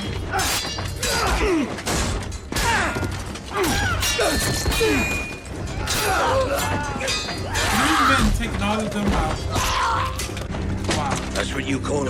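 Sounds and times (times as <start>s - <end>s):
men grunting and crying out: 0.0s - 10.4s
blows and clashing impacts: 0.0s - 11.3s
film score music: 0.0s - 12.0s.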